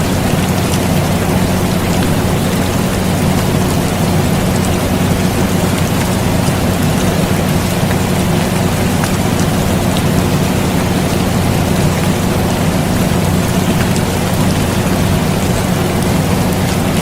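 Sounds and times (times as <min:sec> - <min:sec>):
air conditioner humming: 0:00.0 - 0:17.0
rain falling: 0:00.0 - 0:17.0.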